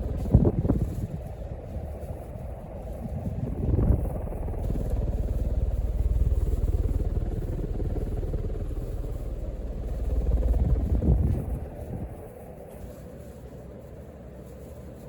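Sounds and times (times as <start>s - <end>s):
ceiling fan downdraft rumbling: 0.0s - 14.7s.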